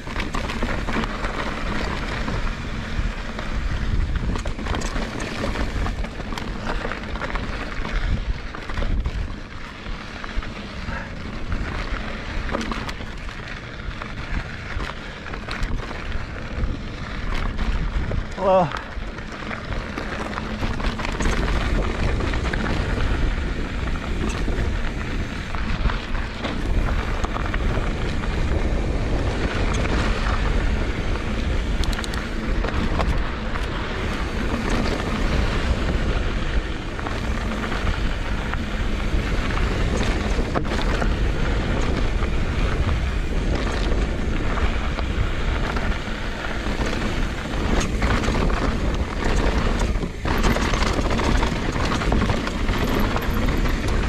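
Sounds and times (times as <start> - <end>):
bike rolling on rocky trail: 0.0 - 54.0
wind buffeting microphone: 0.0 - 54.0.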